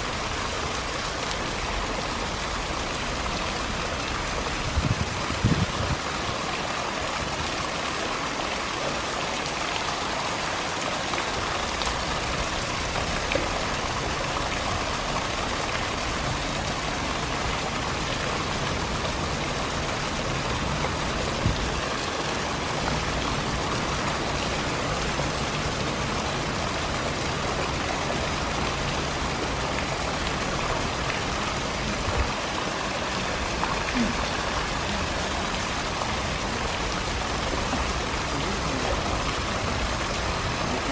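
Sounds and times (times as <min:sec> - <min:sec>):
water rushing and splashing: 0:00.0 - 0:40.9.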